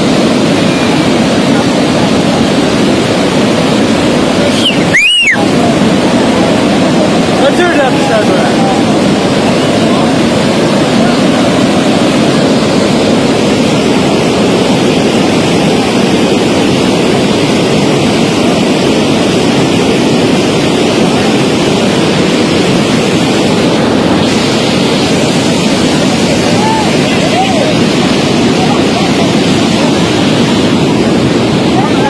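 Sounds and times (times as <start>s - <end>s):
rushing floodwater: 0.0s - 32.0s.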